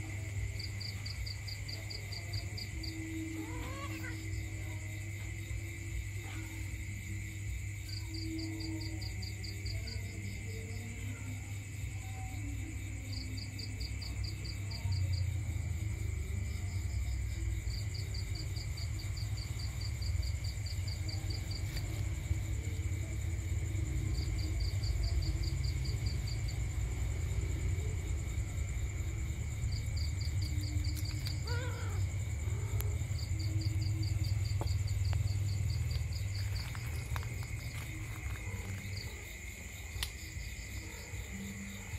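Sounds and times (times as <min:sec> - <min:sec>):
crickets chirping: 0:00.0 - 0:41.9
high insect drone: 0:00.0 - 0:41.9.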